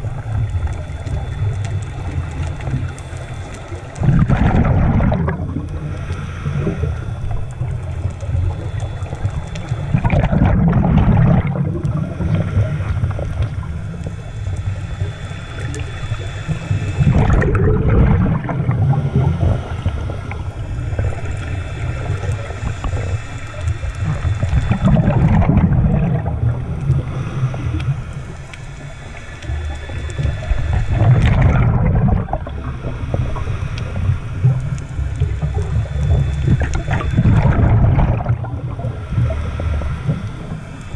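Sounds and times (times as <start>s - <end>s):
exhaled bubbles rushing: 0.0s - 40.9s
low underwater rumble: 0.0s - 40.9s.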